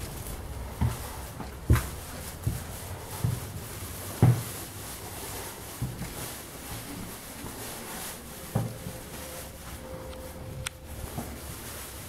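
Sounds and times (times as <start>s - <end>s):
footsteps on floor: 0.0s - 12.0s.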